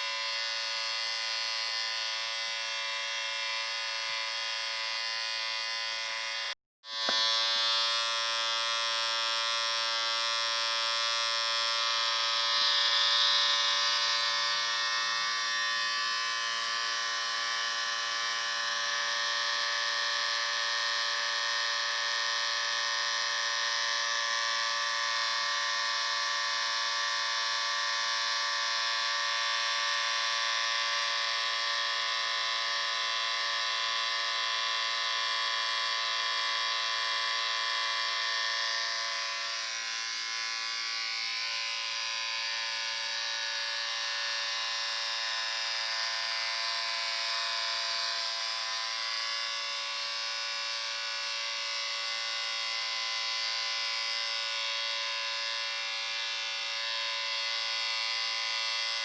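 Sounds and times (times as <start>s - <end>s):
electric shaver buzzing: 0.0s - 59.0s.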